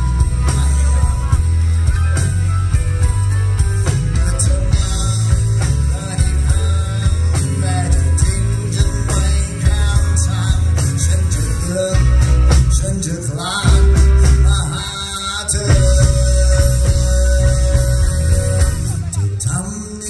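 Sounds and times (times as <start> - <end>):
man singing into microphone: 0.0 - 1.7, 3.8 - 20.0
live rock band: 0.0 - 20.0.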